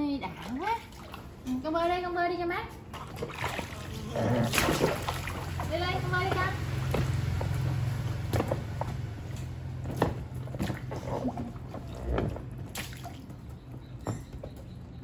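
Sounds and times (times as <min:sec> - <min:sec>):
water splashing and dripping: 0:00.2 - 0:02.0, 0:02.8 - 0:14.0.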